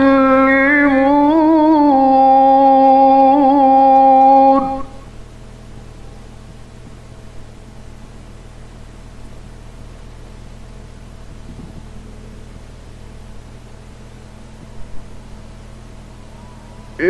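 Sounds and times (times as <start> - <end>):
low mains hum: 0.0 - 17.0.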